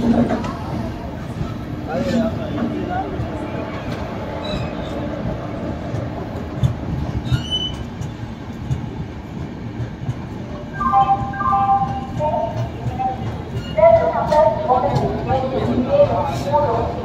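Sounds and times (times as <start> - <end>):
rumble of wheels on rail: 0.0 - 17.0.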